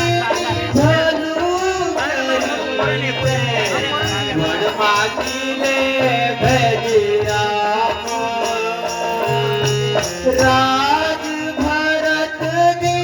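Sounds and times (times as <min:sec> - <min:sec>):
hand drum beat: 0:00.0 - 0:13.0
person singing: 0:00.0 - 0:13.0.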